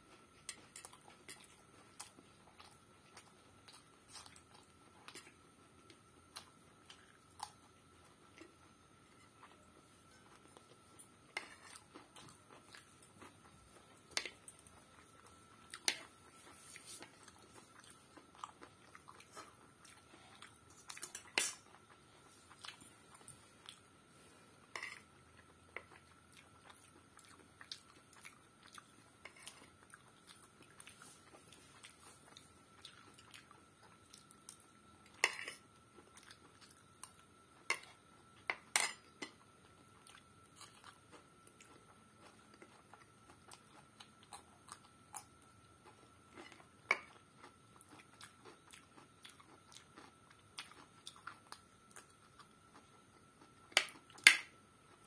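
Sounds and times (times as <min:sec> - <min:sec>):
chewing and biting pasta: 0:00.1 - 0:23.9, 0:24.9 - 0:38.4, 0:39.3 - 0:55.0.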